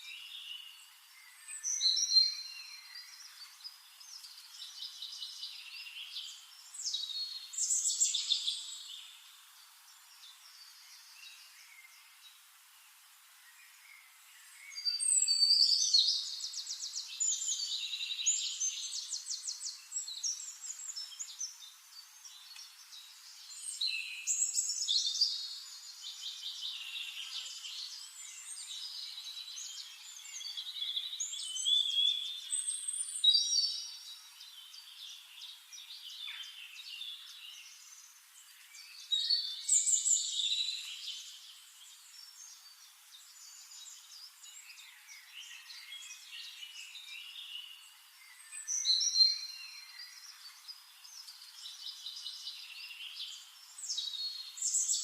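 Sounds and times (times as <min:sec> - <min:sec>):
songbird singing with trills: 0:00.0 - 0:12.5, 0:13.4 - 0:55.0.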